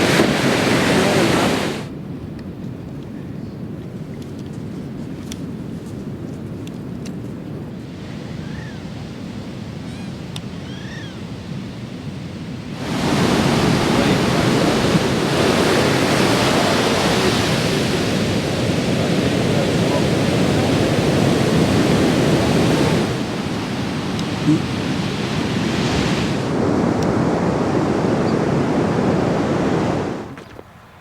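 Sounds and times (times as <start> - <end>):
ocean surf: 0.0 - 2.8, 7.4 - 31.0
wind on microphone: 0.0 - 31.0.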